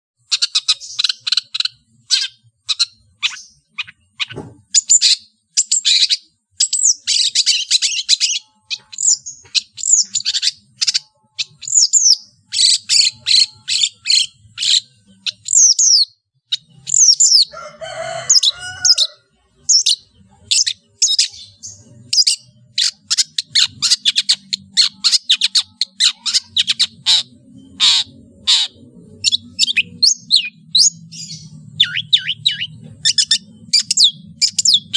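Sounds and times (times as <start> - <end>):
rough bird chattering: 0.2 - 34.9
bird singing chirps and whistles: 0.3 - 19.0, 20.6 - 34.9.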